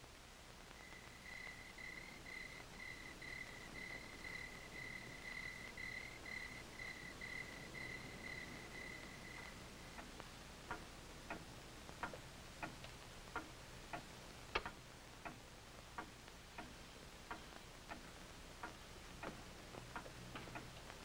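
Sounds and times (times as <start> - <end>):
wall clock ticking: 1.3 - 21.0.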